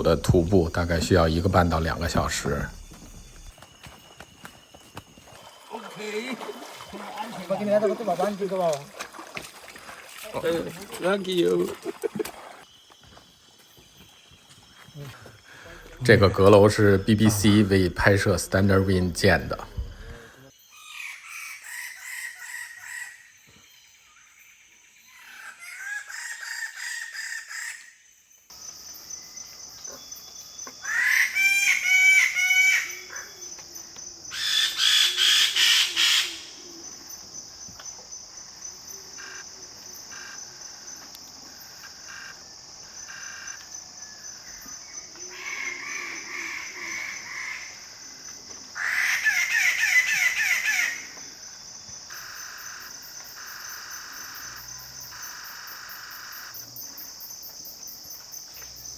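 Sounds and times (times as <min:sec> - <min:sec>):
high insect drone: 0:00.0 - 0:58.9.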